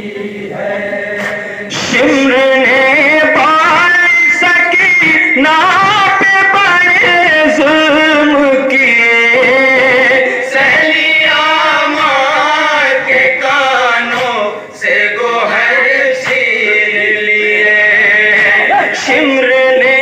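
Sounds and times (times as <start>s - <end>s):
man chanting a lament: 0.0s - 20.0s.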